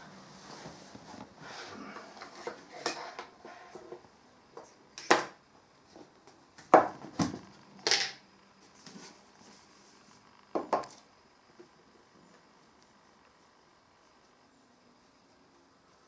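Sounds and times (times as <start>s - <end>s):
room sound: 0.0s - 16.0s.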